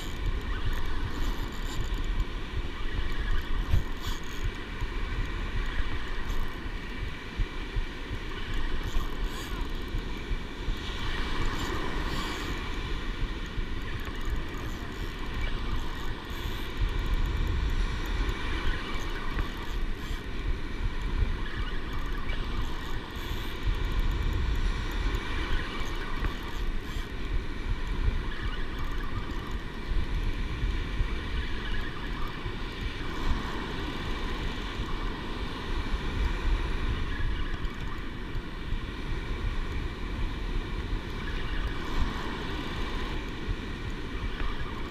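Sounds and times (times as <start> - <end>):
faint steady whine: 0.0 - 44.9
wind buffeting microphone: 0.0 - 44.9.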